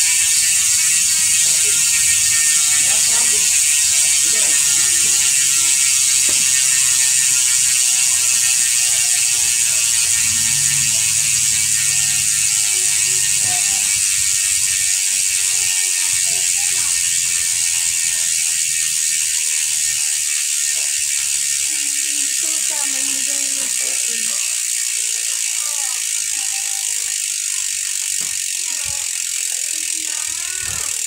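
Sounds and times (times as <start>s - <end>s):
bicycle freehub clicking: 0.0s - 31.0s.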